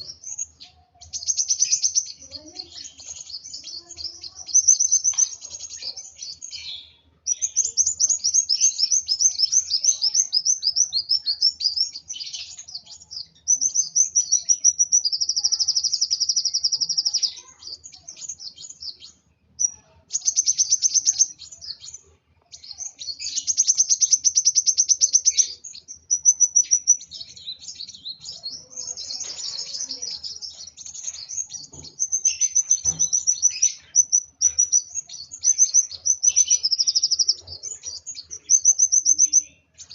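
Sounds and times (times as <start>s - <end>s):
sunbird singing high trills: 0.0s - 39.9s.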